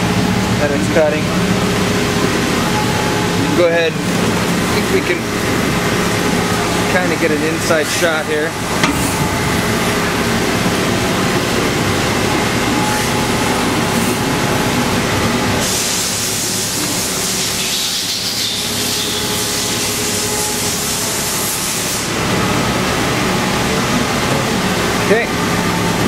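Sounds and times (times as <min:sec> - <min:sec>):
milling machine running: 0:00.0 - 0:26.0.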